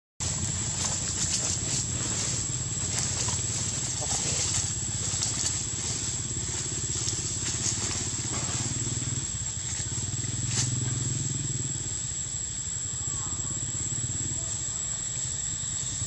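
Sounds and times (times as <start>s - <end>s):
high whine: 0.2s - 16.0s
small engine running: 0.2s - 16.0s.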